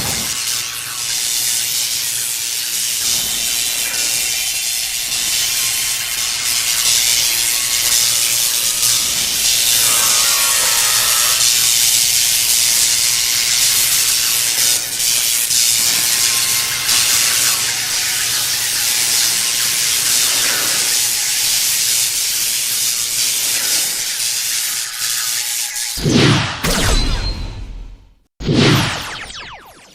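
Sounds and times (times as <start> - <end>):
loud steady hiss: 0.0 - 25.7.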